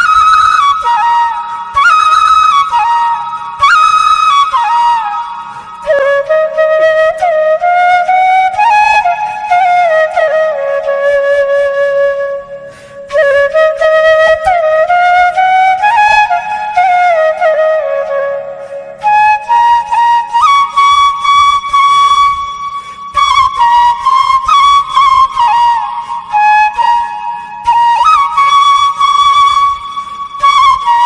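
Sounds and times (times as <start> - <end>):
solo flute melody: 0.0 - 31.0.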